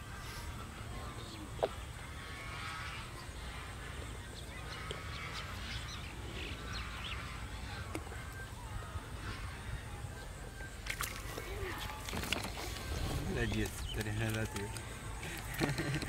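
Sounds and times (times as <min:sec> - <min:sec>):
distant birds honking: 0:00.0 - 0:16.0.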